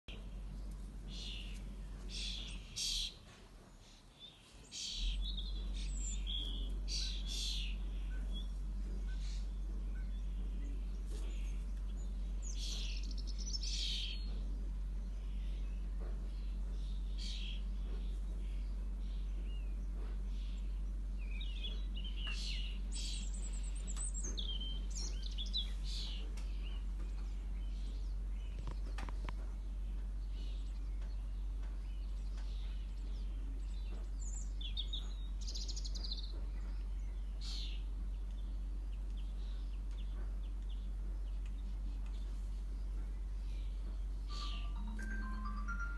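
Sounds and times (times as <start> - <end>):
small songbirds chirping: 0.1 - 45.9
steady low hum: 0.1 - 45.9.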